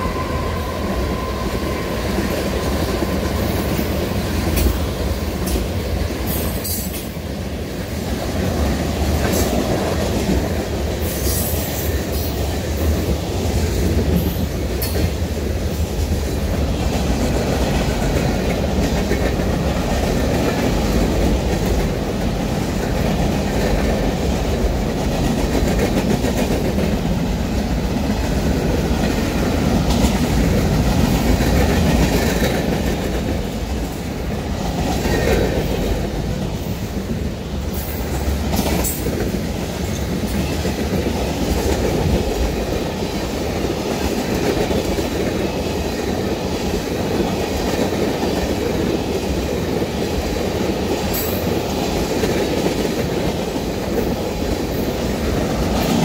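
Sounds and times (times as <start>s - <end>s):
freight train cars rolling on rails: 0.0s - 56.0s.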